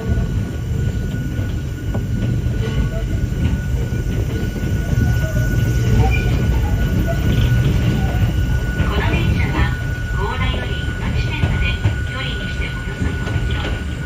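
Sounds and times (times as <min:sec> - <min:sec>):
constant high tone: 0:00.0 - 0:14.0
train wheels rumbling: 0:00.0 - 0:14.0.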